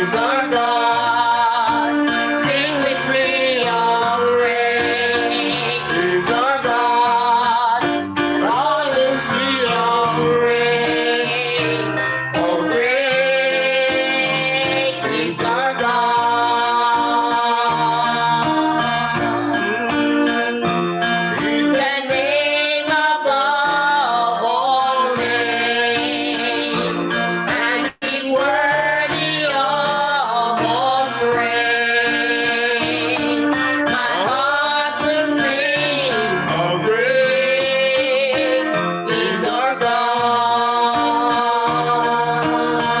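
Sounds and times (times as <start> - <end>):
guitar accompaniment: 0.0 - 43.0
person singing with vibrato: 0.0 - 43.0
worship song music: 0.0 - 43.0.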